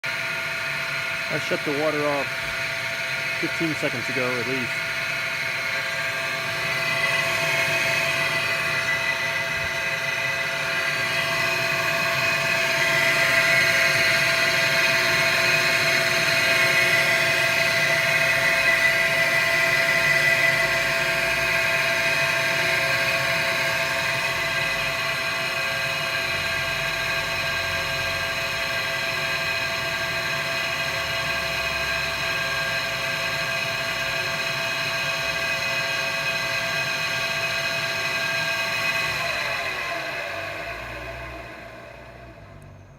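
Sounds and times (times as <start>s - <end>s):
water heater fan whirring whine: 0.0s - 42.9s.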